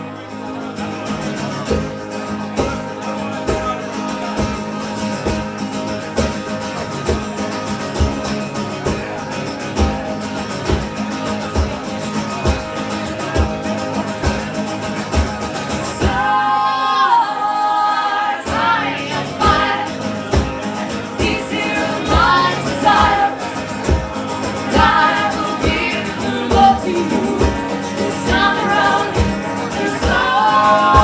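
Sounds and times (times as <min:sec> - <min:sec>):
acoustic guitars playing: 0:00.0 - 0:31.0.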